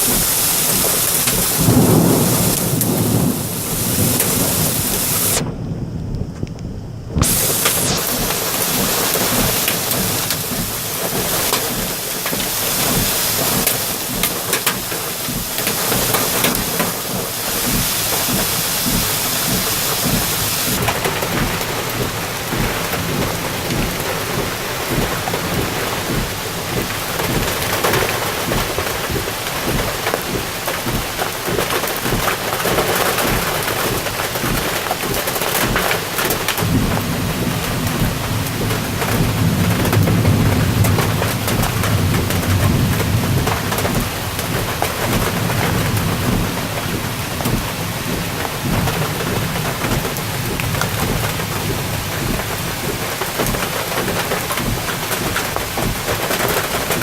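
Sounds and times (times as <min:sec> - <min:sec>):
heavy rain pouring: 0:00.0 - 0:57.0
raindrops hitting a surface: 0:00.0 - 0:57.0.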